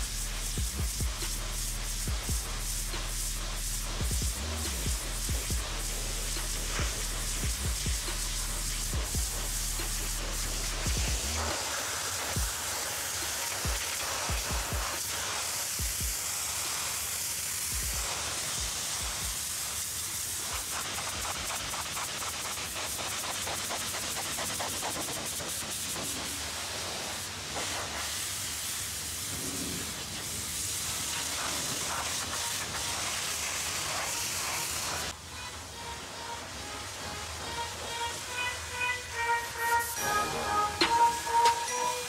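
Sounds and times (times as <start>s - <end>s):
pressure washer jet hissing: 0.0s - 35.2s.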